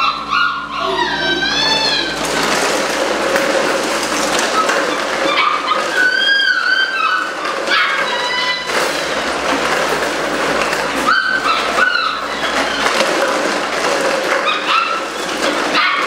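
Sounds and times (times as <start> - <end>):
puppies whining: 0.0 - 16.0
loud rustling and scraping: 0.8 - 16.0.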